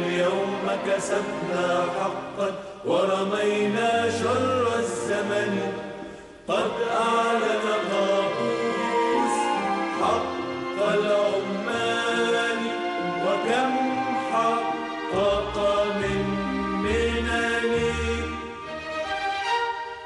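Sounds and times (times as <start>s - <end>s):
choir singing: 0.0s - 19.7s
instrumental backing music: 3.8s - 20.0s.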